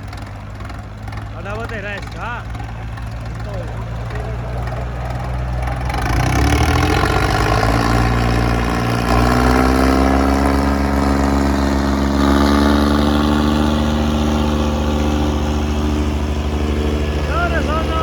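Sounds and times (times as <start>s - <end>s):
diesel tractor engine revving: 0.0s - 18.0s.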